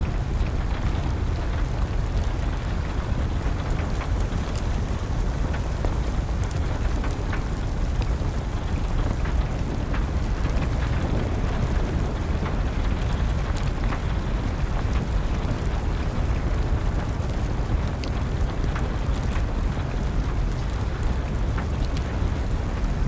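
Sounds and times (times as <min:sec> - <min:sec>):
steady rainfall: 0:00.0 - 0:23.0
wood fire crackling: 0:00.0 - 0:23.0.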